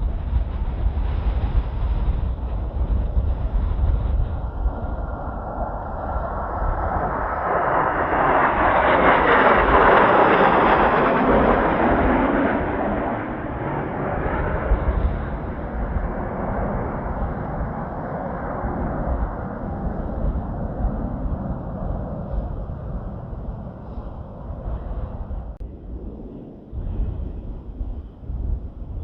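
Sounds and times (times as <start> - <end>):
jet roaring past: 0.0 - 28.9
wind buffeting microphone: 0.0 - 29.0.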